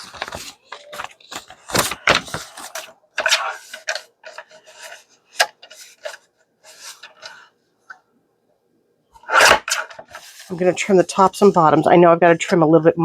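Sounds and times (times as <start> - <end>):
paper pages scraping and rustling: 0.0 - 7.5, 9.2 - 12.6.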